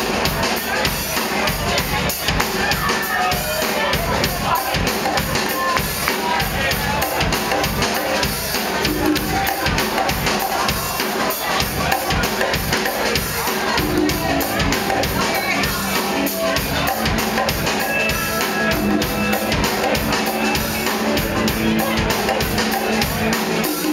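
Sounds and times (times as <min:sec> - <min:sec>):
drum kit beat: 0:00.0 - 0:23.9
live band playing: 0:00.0 - 0:23.9.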